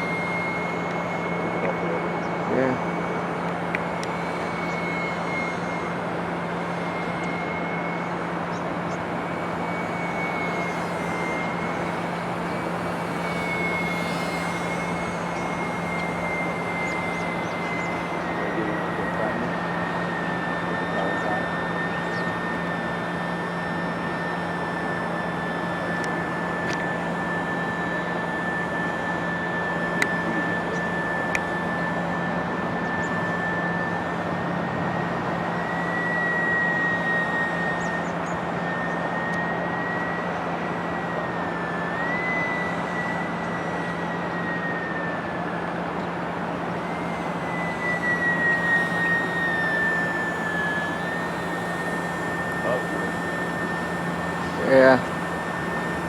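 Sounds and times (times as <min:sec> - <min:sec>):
model plane motor whining: 0:00.0 - 0:56.0.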